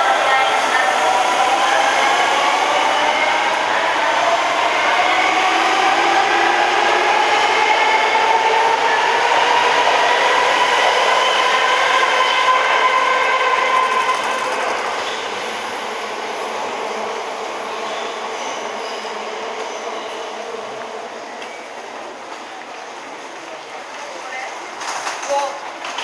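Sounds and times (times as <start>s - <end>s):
subway train motors whining: 0.0s - 26.0s.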